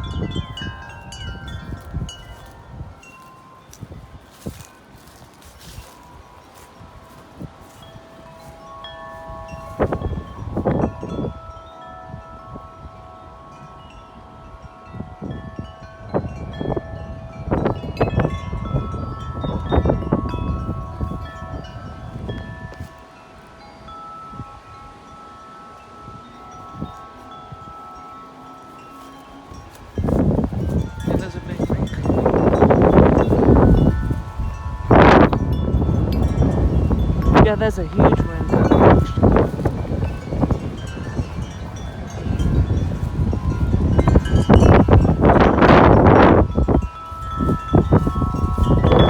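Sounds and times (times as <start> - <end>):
wind buffeting microphone: 0.0 - 49.0
wind chimes ringing: 0.0 - 49.0.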